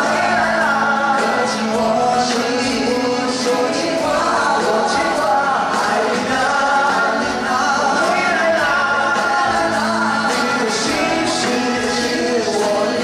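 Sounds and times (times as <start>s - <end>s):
band with guitars: 0.0s - 13.0s
men singing pop song: 0.0s - 13.0s.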